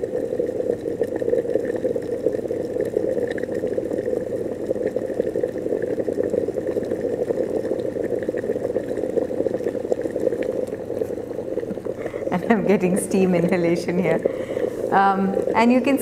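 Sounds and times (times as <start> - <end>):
kettle water bubbling: 0.0 - 16.0.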